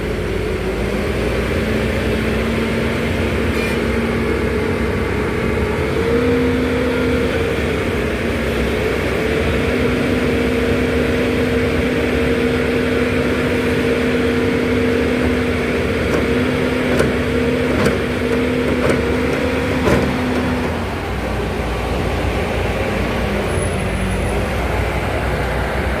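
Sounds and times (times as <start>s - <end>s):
construction machinery droning: 0.0s - 26.0s.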